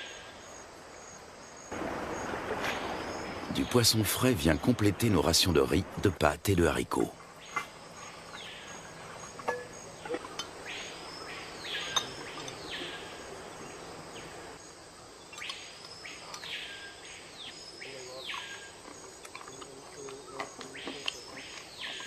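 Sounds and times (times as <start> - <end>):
insect hiss: 0.0 - 22.0.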